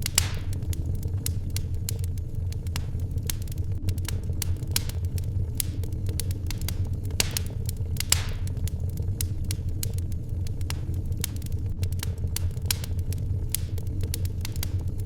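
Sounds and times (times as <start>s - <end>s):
fire hiss: 0.0s - 15.0s
wood fire crackling: 0.0s - 15.0s.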